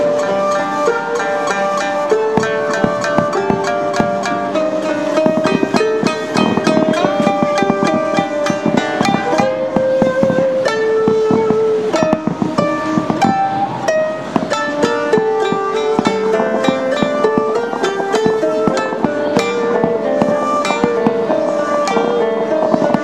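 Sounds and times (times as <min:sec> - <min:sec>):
plucked strings playing quick melody: 0:00.0 - 0:23.0.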